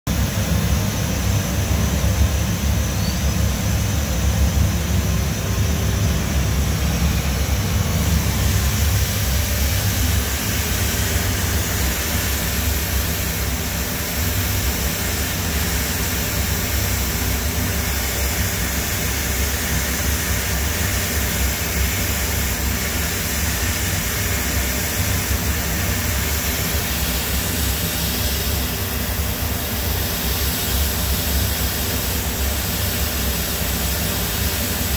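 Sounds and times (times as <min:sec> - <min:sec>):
hiss: 0:00.1 - 0:34.9
low machine hum: 0:00.1 - 0:34.9.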